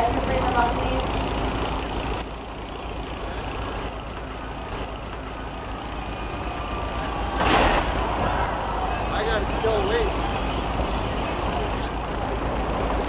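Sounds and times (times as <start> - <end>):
heavy vehicle engines running: 0.0 - 13.0
outdoor noise: 0.0 - 13.0.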